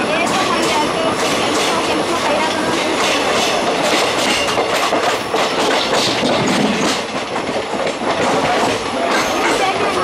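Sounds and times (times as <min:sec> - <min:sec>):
rumble of moving coaches: 0:00.0 - 0:10.0
train wheels clattering: 0:00.0 - 0:10.0.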